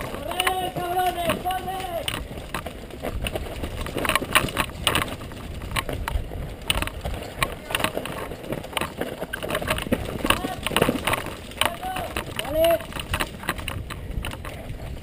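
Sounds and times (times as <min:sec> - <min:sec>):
mountain bike rattling over rocks: 0:00.0 - 0:15.0.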